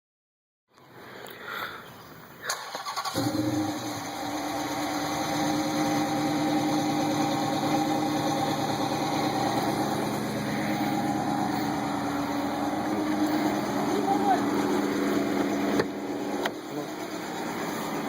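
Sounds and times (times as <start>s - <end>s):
car engine idling: 2.6s - 18.0s.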